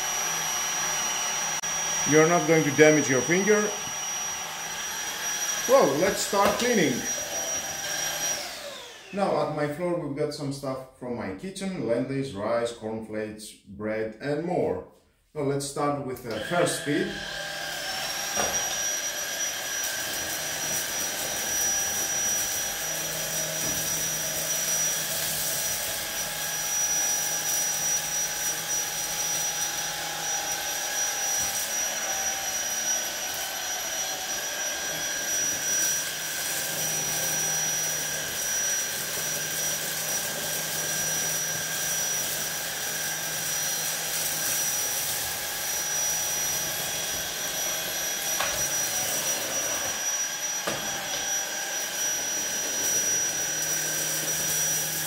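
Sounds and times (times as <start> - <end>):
vacuum cleaner whine and airflow: 0.0 - 9.8, 16.2 - 55.0.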